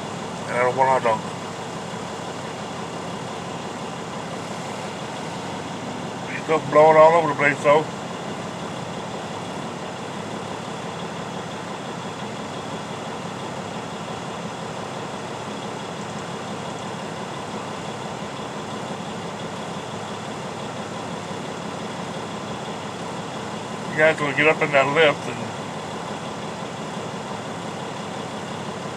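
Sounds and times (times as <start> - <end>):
truck engine idling: 0.0 - 28.9.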